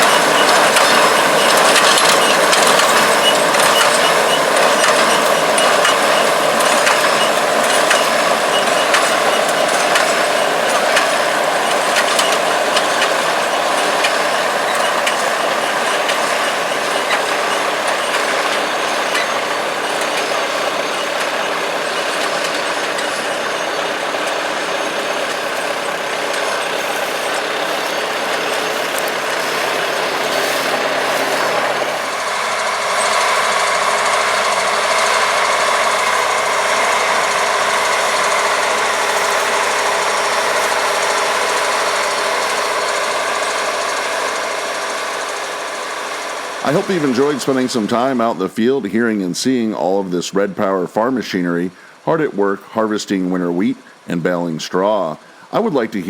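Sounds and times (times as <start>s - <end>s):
diesel harvest machinery running: 0.0s - 56.0s.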